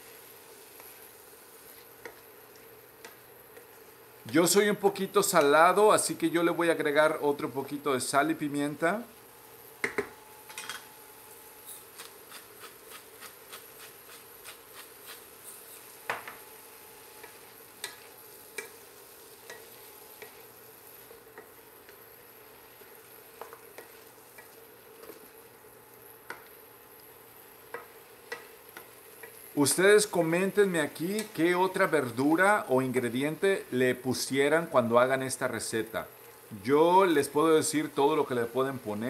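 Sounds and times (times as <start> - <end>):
vegetables sizzling in a skillet: 0.0 - 39.0.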